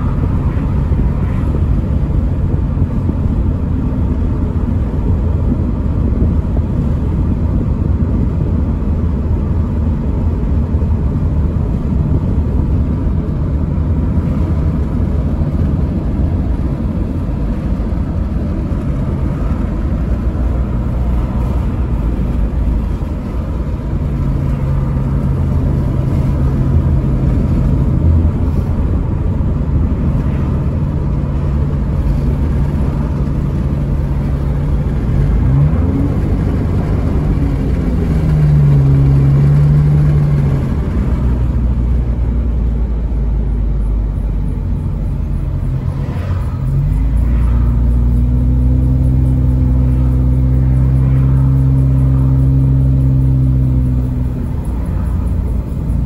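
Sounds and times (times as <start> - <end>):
car engine hum: 0.0 - 56.0
tyre rumble inside car: 9.8 - 56.0.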